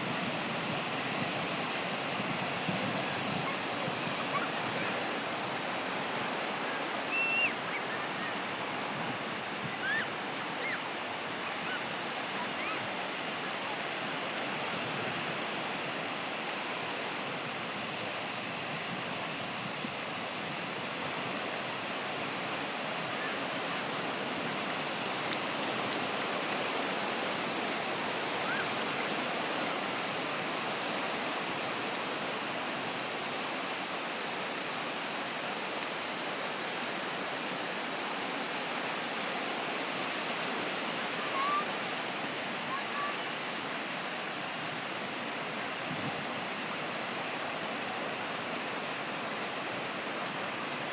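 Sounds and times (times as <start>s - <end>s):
sea waves breaking on shore: 0.0s - 50.9s.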